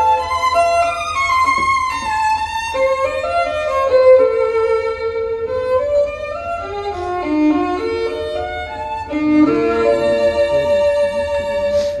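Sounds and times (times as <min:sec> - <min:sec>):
violin music over loudspeakers: 0:00.0 - 0:12.0.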